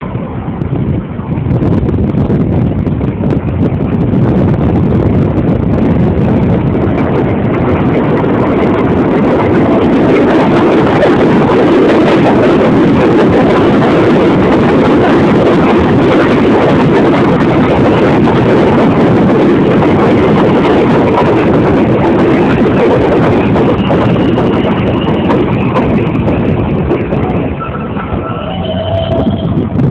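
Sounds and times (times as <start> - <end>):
train wheels rumbling on rails: 0.0 - 29.9.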